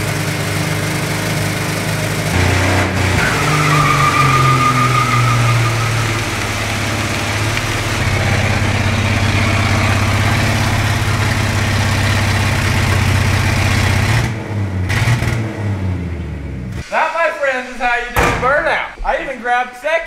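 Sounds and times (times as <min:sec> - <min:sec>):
engine at high revs: 0:00.0 - 0:16.1.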